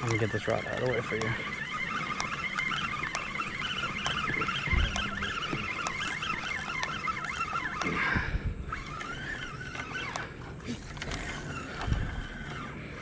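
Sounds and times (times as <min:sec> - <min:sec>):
birds chirping and warbling: 0:00.0 - 0:13.0.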